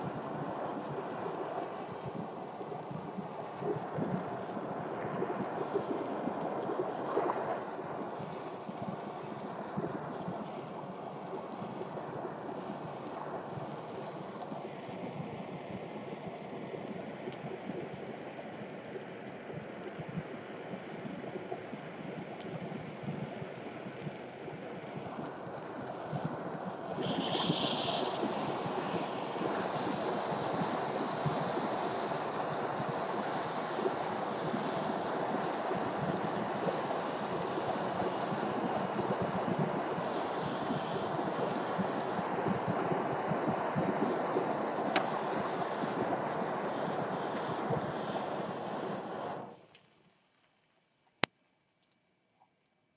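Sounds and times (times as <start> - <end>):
faint crackles of burning plastic: 0.0 - 52.8.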